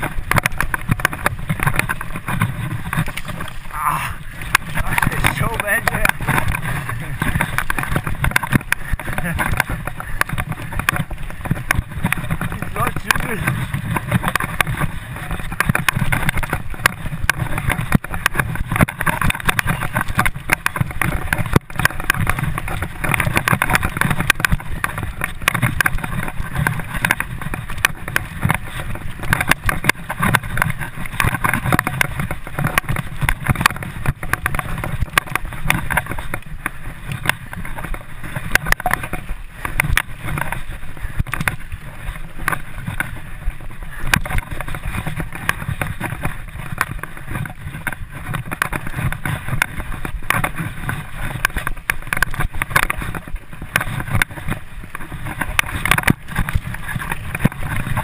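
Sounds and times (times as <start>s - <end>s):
mountain bike rumbling on dirt trail: 0.0s - 58.0s
wind rushing over microphone: 0.0s - 58.0s.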